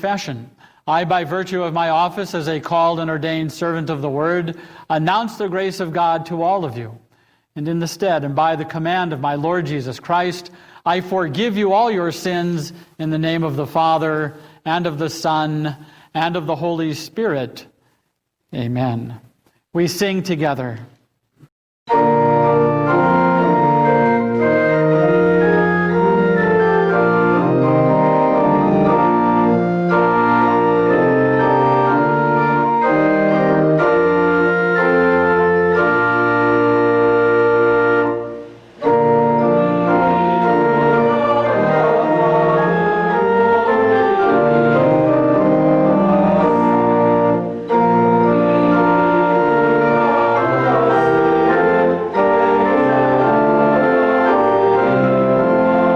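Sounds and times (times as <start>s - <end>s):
church organ playing a hymn: 0.0s - 6.9s, 7.6s - 17.4s, 21.9s - 55.9s.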